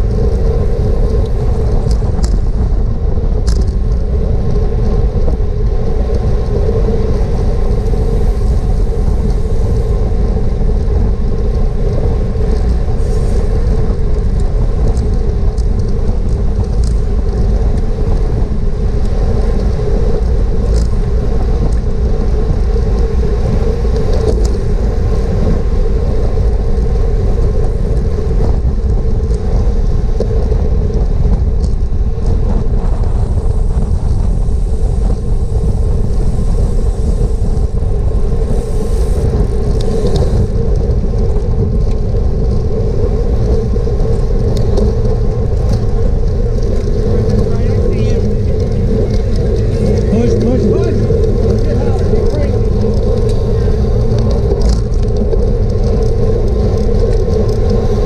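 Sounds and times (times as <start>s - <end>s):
wind rush and rumble: 0.0s - 58.0s.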